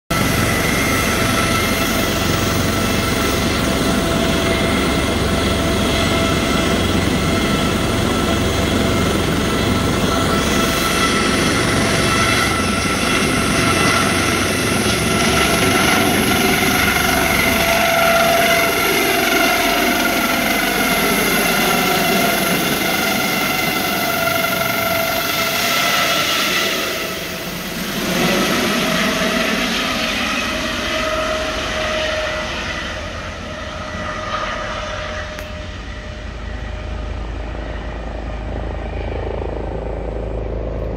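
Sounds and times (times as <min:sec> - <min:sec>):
helicopter engines and rotor: 0:00.1 - 0:40.9
high whine: 0:00.1 - 0:40.9.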